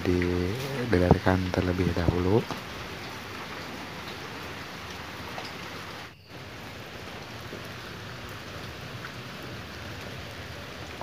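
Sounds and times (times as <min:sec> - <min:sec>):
rain on concrete and puddles: 0:00.0 - 0:11.0.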